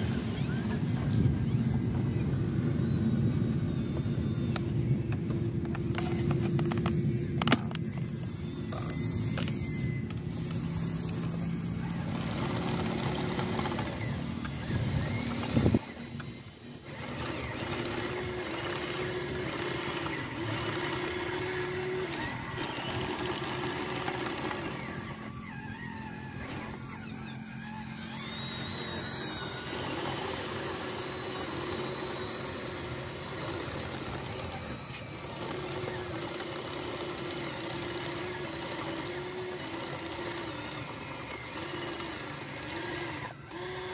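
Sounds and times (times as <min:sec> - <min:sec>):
model bulldozer motor humming: 0:00.0 - 0:43.9.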